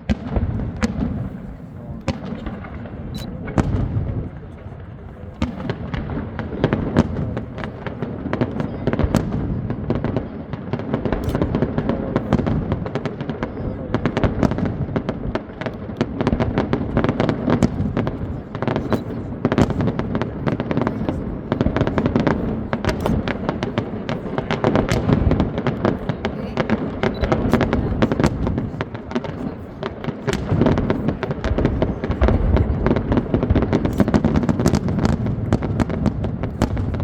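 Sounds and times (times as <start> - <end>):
fireworks crackling and booming: 0.0 - 37.0.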